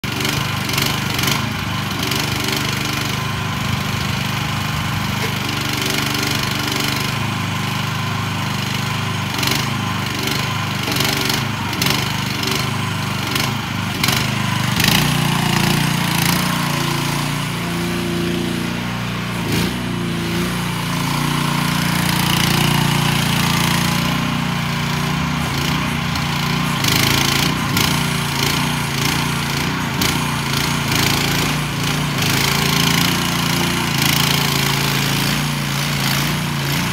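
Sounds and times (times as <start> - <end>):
mini excavator engine running: 0.0 - 36.9.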